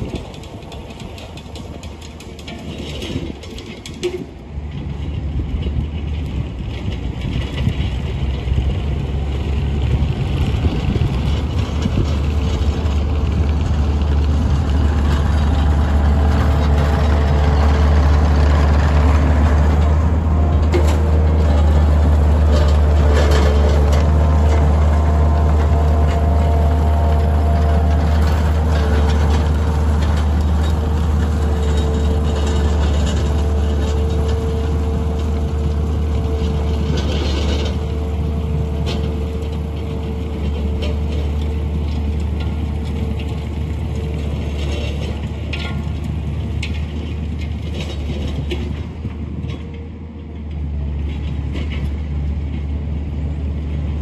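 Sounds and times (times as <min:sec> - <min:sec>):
track loader diesel engine: 0:00.0 - 0:54.0.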